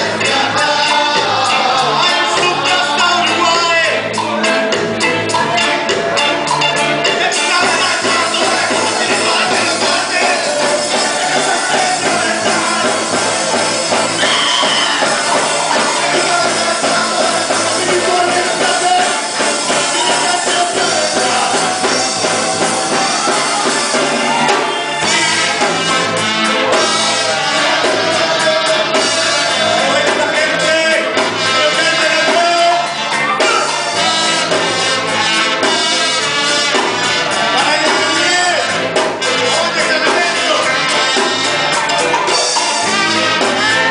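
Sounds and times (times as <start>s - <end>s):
person singing: 0.0s - 26.0s, 26.8s - 35.9s
drums and percussion: 0.0s - 43.9s.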